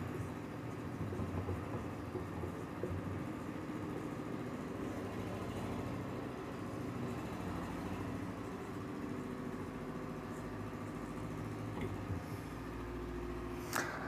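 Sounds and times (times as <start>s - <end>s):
marker writing on whiteboard: 0.0s - 12.4s
low mechanical hum: 0.0s - 14.0s.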